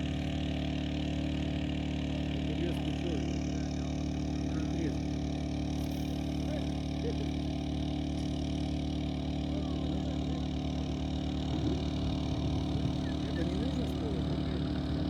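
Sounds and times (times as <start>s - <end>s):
machine engine droning hum: 0.0s - 15.0s.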